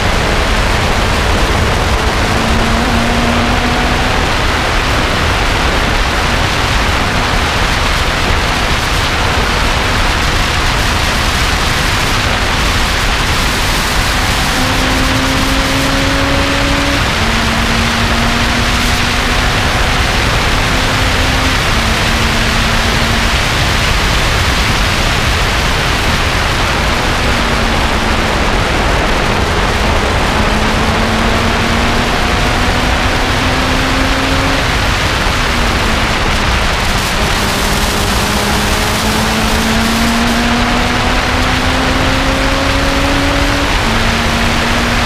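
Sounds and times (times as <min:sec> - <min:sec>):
road noise: 0:00.0 - 0:45.0
sports car engine running: 0:00.0 - 0:45.0
wind noise: 0:00.0 - 0:45.0.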